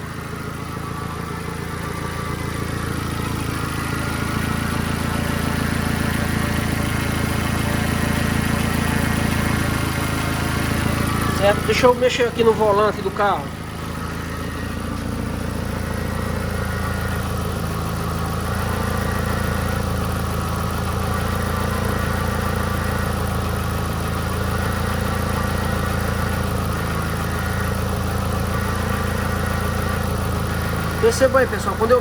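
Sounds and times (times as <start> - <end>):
car engine idling: 0.0 - 32.0
power steering drone: 0.0 - 32.0.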